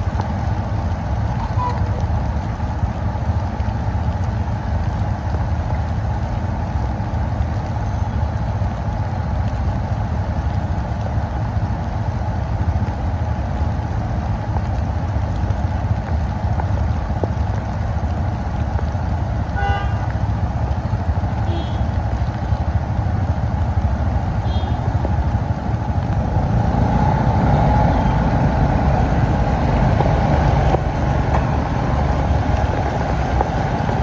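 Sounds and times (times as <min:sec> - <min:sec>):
bike road and wind rumble: 0:00.0 - 0:34.0.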